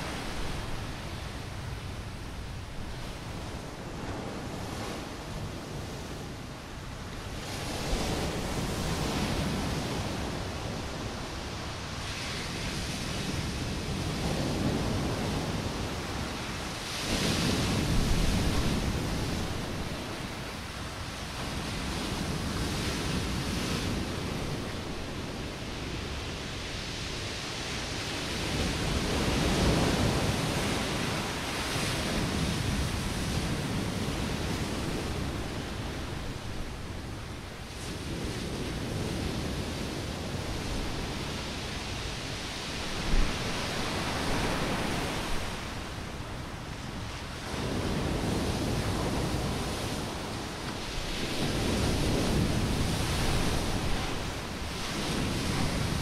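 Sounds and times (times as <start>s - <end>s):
wind blowing across microphone: 0.0s - 56.0s
surf breaking on shore: 7.4s - 56.0s.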